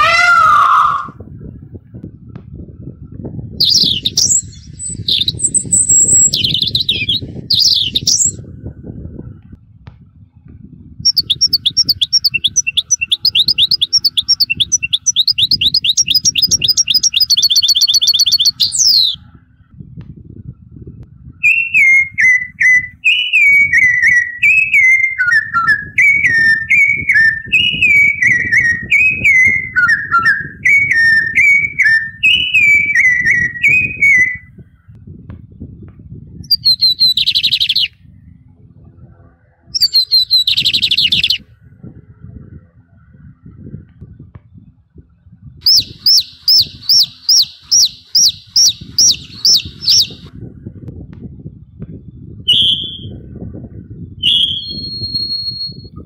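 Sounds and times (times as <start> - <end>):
recorded birdsong whistles and trills: 0.0 - 9.4, 10.8 - 19.8, 21.2 - 35.0, 36.3 - 38.5, 39.3 - 44.8, 45.6 - 50.3, 52.4 - 56.0.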